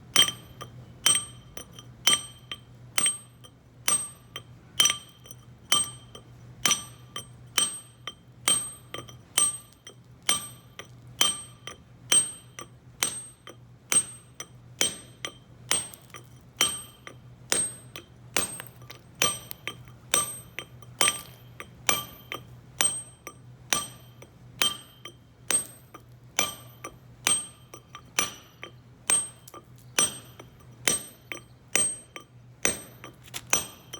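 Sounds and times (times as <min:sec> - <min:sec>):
hammer striking steel chisel: 0:00.1 - 0:33.9.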